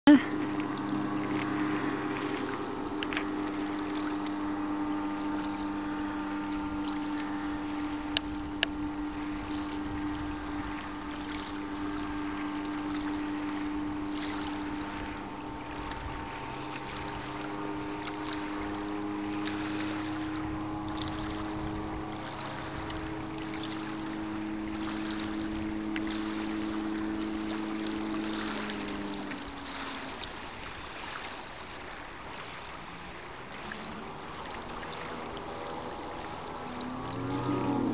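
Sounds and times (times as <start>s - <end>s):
outboard motor running: 0.0s - 37.9s
wind and water hiss: 0.1s - 37.9s.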